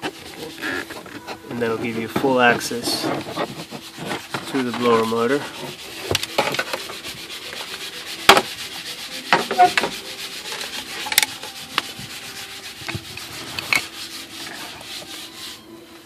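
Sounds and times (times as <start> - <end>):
plastic parts rubbing and scraping: 0.0 - 15.7.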